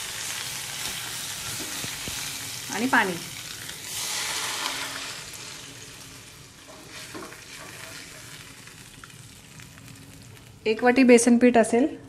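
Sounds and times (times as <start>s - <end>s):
hot oil sizzling: 0.0s - 10.8s.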